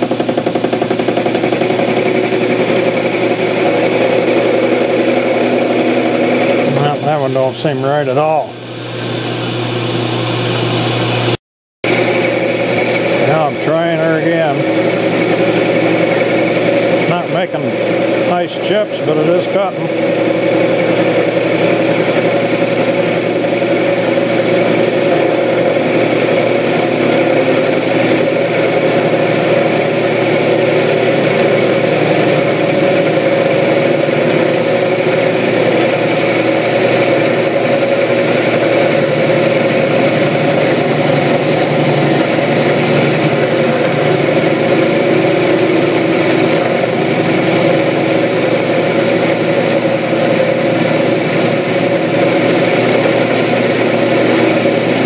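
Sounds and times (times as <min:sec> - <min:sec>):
metal lathe cutting with whine: 0:00.0 - 0:55.0.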